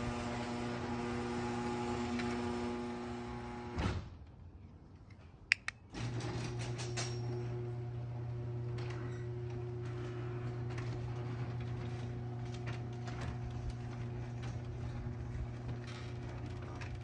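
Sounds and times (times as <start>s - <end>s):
garage door opener hum: 0.0s - 3.9s, 5.9s - 17.0s.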